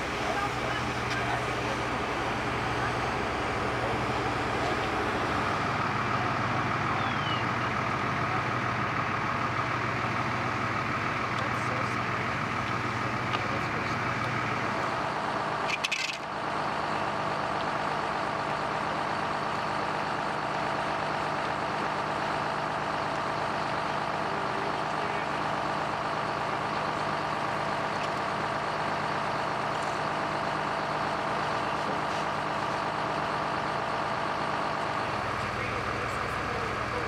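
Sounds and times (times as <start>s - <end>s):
fire engine drone: 0.0s - 37.0s.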